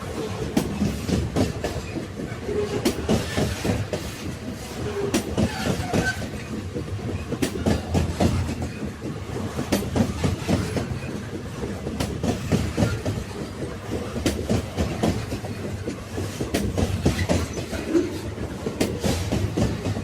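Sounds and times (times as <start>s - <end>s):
railway wagons rumbling on rails: 0.0s - 20.0s.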